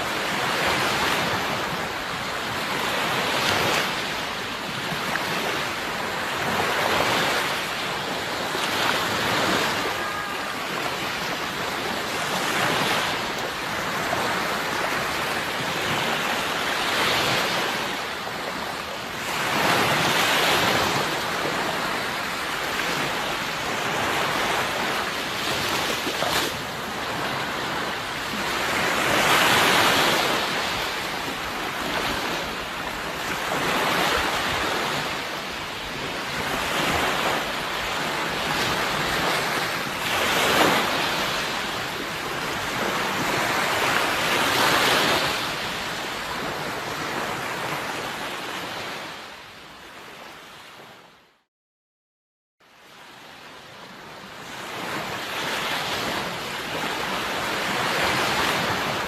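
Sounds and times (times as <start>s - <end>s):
sea waves breaking ashore: 0.0s - 51.1s, 52.8s - 59.0s.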